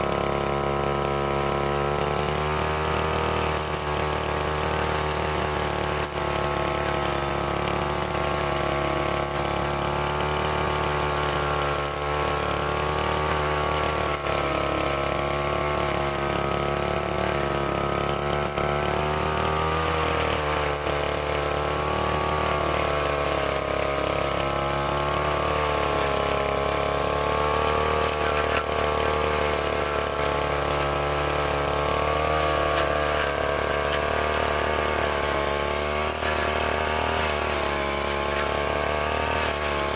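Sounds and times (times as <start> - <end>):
brushcutter engine running: 0.0 - 39.9.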